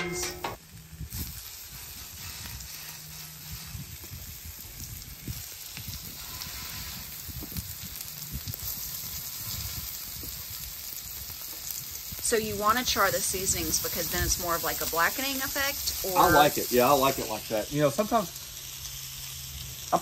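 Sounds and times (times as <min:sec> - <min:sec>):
fish sizzling on a griddle: 0:00.0 - 0:20.0.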